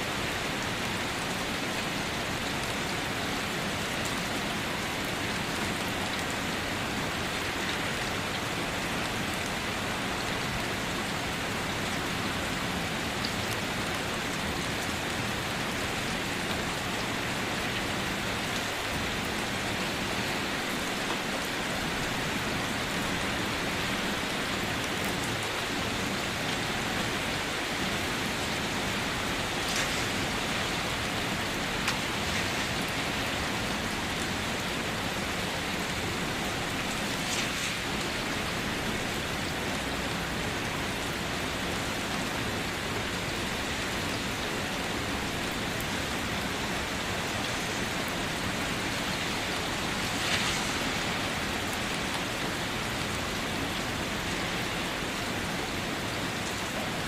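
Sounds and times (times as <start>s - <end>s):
rain drumming on a car roof: 0.1s - 57.0s.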